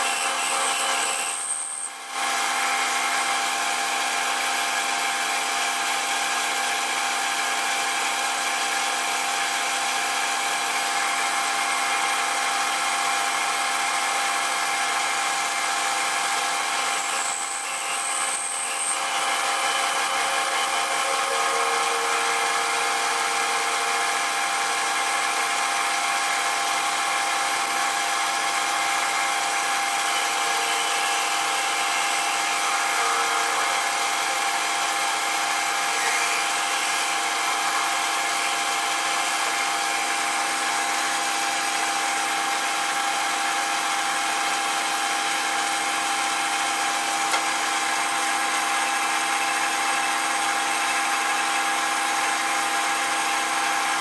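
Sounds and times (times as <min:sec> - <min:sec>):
metal lathe whining: 0:00.0 - 0:54.0.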